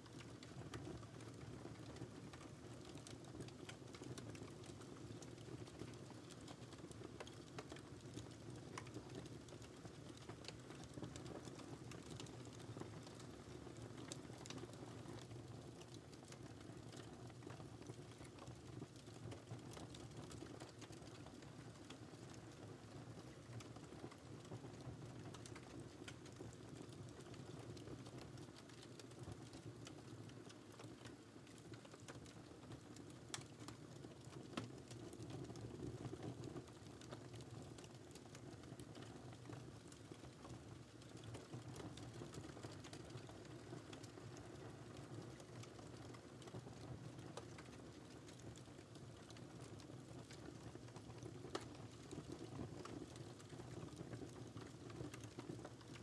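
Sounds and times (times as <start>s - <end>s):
wood fire crackling: 0.1s - 56.0s.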